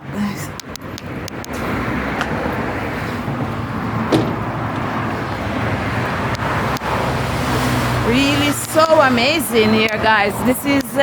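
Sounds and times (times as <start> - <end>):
busy road traffic: 0.0 - 11.0.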